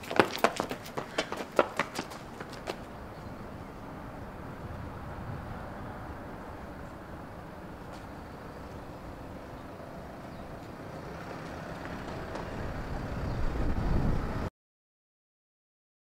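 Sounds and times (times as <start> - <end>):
car passing close: 0.0 - 14.5
road traffic: 0.0 - 14.5.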